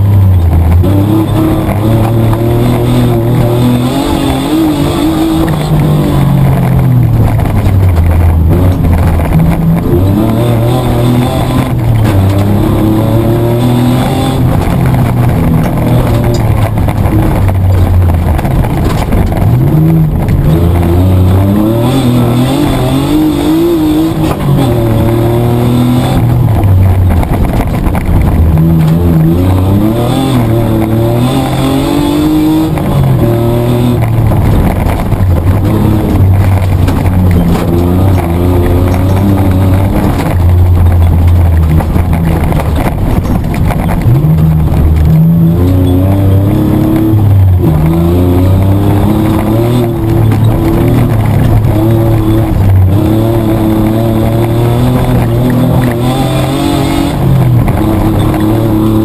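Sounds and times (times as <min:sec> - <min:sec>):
car engine revving: 0:00.0 - 0:59.0
road noise: 0:00.0 - 0:59.0.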